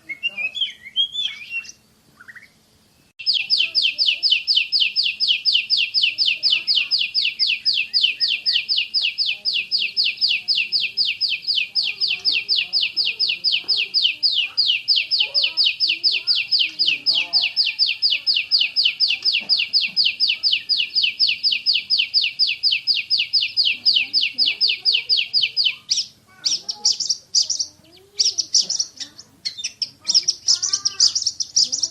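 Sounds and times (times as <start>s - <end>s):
bird chirping: 0.0s - 31.9s
rapid whistled bird song: 0.0s - 31.9s.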